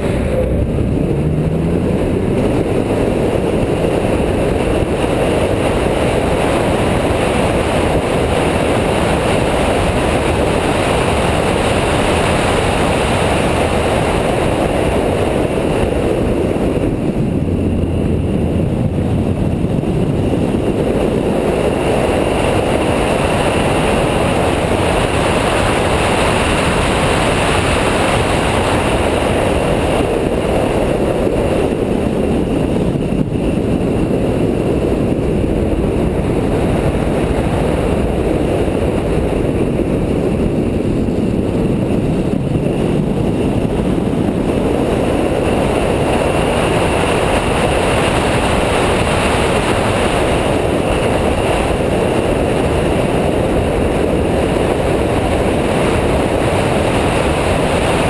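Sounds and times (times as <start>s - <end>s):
race car engine: 0.0s - 58.0s
road and wind noise: 0.0s - 58.0s.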